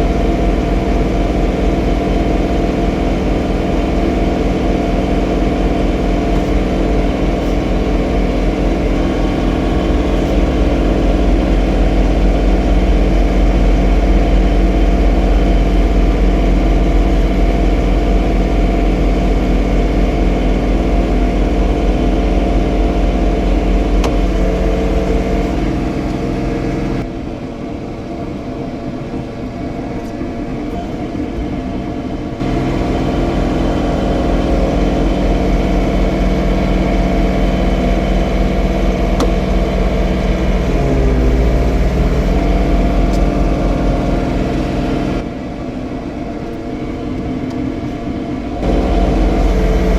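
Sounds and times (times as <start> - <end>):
tractor diesel engine running: 0.0 - 27.1, 30.0 - 45.6, 46.2 - 49.9.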